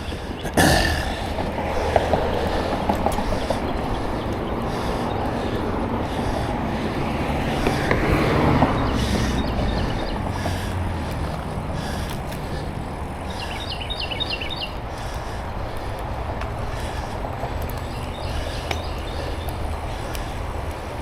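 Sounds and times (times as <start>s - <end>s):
bird chirping: 0.0s - 15.5s, 17.0s - 20.4s
bicycle tyre noise: 0.0s - 21.0s
wind on microphone: 0.0s - 21.0s.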